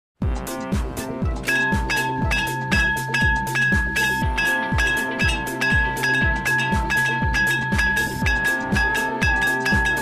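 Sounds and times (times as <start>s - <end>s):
level crossing warning bell: 1.4s - 10.0s.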